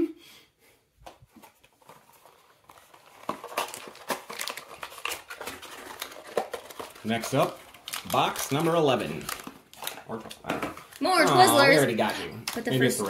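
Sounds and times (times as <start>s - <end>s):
plastic packaging crinkling: 1.3s - 13.0s.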